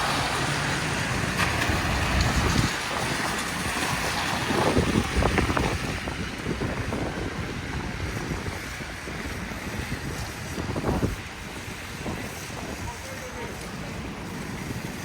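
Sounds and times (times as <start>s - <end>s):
city street noise: 0.0s - 15.0s
wind buffeting microphone: 0.0s - 15.0s.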